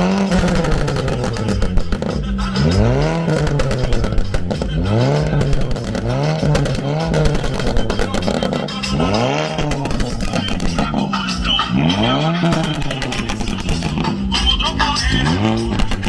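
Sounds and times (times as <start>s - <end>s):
racing engine revving: 0.0s - 16.0s.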